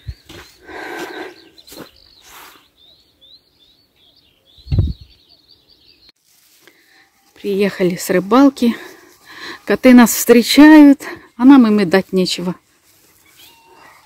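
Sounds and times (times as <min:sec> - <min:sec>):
outdoor noise: 0:00.0 - 0:14.0
small birds chirping: 0:00.0 - 0:14.0.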